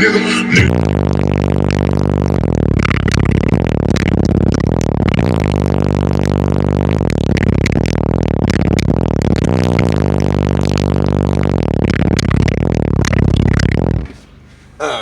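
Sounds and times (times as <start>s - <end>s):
bass-heavy music through subwoofers: 0.0s - 14.9s.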